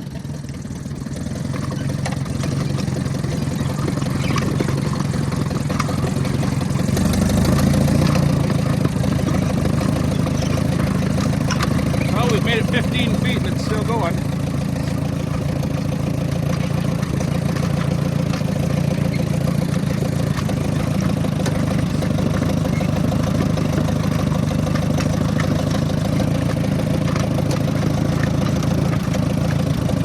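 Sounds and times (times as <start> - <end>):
tractor engine running at low speed: 0.0 - 30.0.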